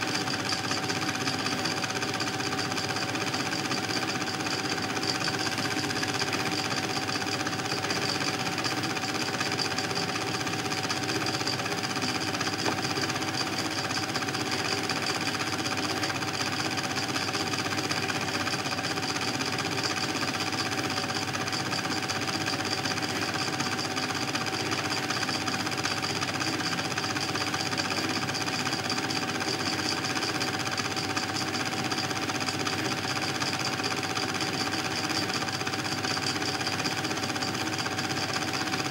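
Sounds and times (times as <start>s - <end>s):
film projector clatter: 0.0s - 38.9s.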